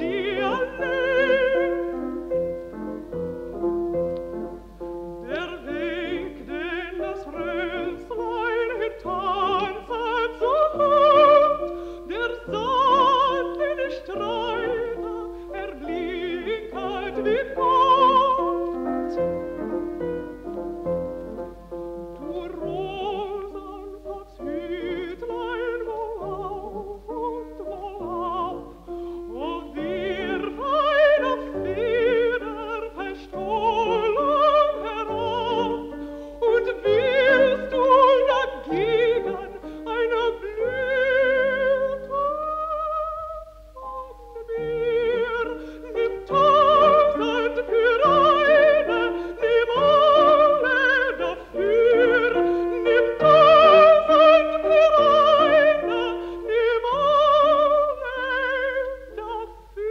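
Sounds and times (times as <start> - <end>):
woman singing: 0.0 - 3.6, 5.2 - 21.3, 22.1 - 59.9
piano accompaniment: 0.0 - 59.9.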